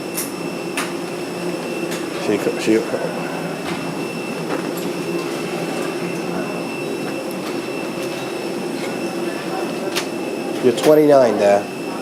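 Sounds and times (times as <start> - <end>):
mechanical hum with high whine: 0.0 - 12.0.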